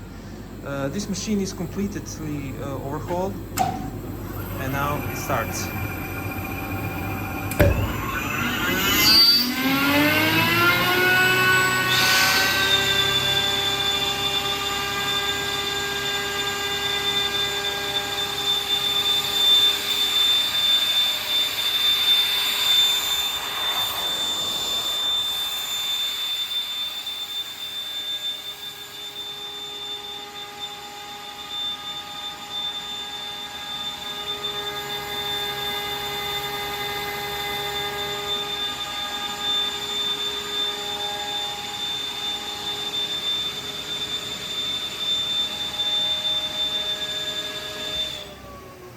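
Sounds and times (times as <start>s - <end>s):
screw compressor whine: 0.0s - 48.9s.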